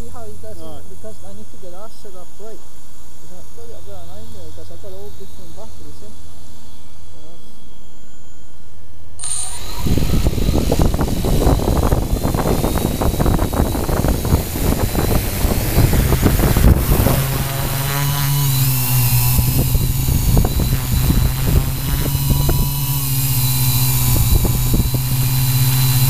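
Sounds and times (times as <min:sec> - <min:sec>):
buffeting noise: 0:00.0 - 0:26.0
drone propellers humming: 0:00.0 - 0:26.0.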